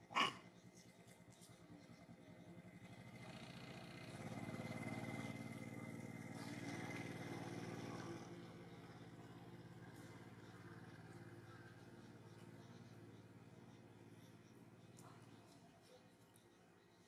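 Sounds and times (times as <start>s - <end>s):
vehicle engine running: 0.0s - 16.1s.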